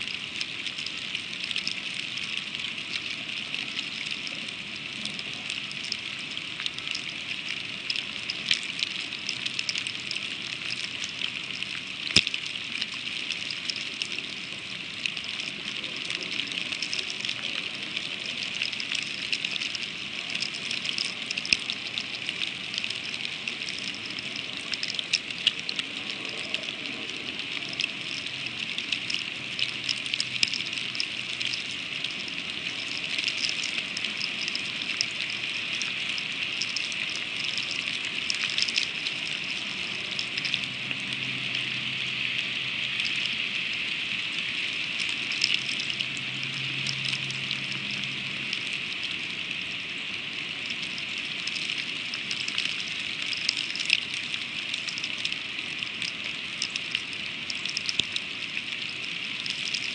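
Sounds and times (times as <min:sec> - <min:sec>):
freezing rain hissing: 0:00.0 - 0:59.9
ice pellets ticking: 0:00.1 - 0:41.8, 0:42.8 - 0:43.8, 0:44.4 - 0:49.3, 0:50.5 - 0:59.9.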